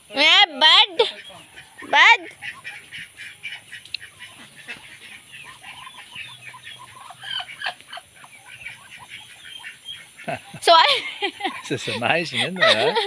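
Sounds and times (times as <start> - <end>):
ducklings peeping: 0.0 - 12.9.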